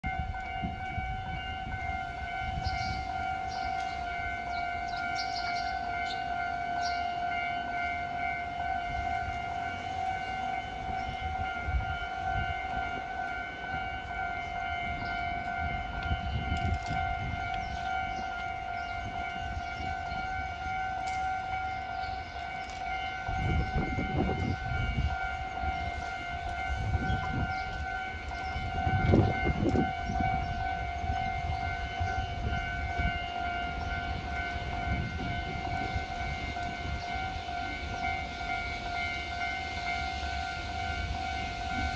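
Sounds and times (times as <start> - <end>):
level-crossing warning bell: 0.0 - 41.9
low train rumble: 0.0 - 41.9.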